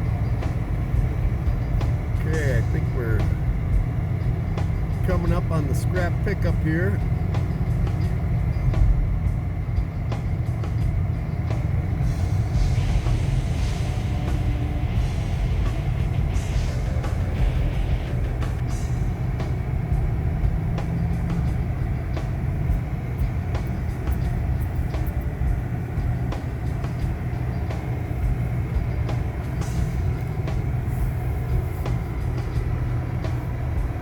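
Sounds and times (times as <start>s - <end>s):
car road and engine rumble: 0.0s - 34.0s.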